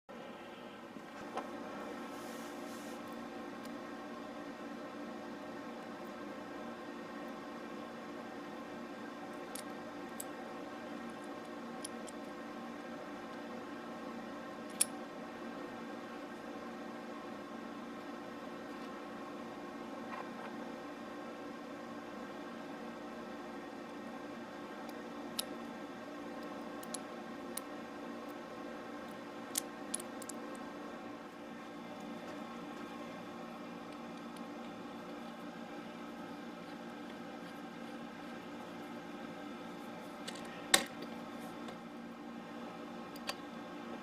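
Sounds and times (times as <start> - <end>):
steady background hum: 0.1 - 44.0.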